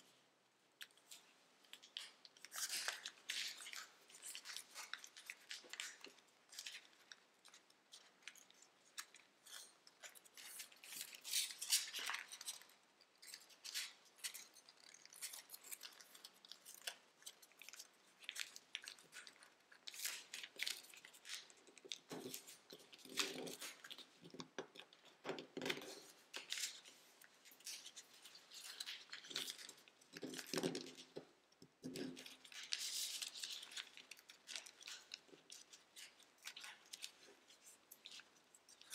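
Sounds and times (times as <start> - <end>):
foil paper crinkling: 1.1 - 24.3, 25.7 - 31.2, 31.9 - 38.9.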